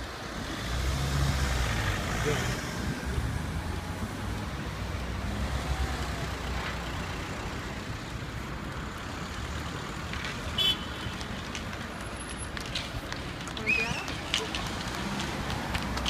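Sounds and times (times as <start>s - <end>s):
passing cars rumbling: 0.0s - 16.0s.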